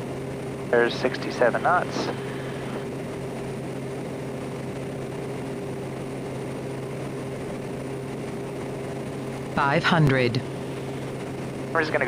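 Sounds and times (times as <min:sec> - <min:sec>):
turboprop engine droning: 0:00.0 - 0:12.0.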